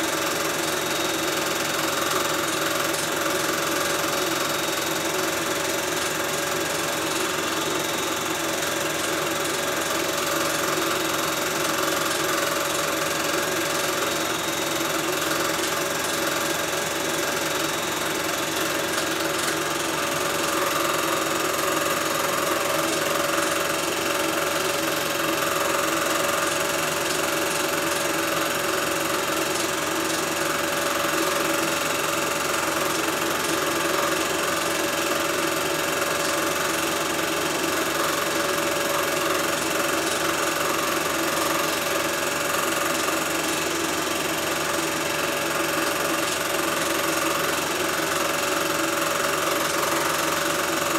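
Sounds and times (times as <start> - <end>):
film projector whirring: 0.0 - 50.9.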